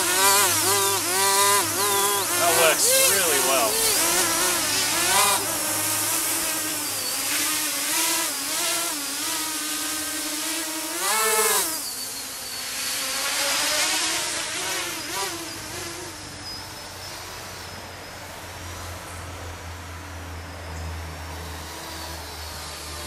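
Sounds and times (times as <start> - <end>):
small electric motors and propellers whining: 0.0 - 23.0.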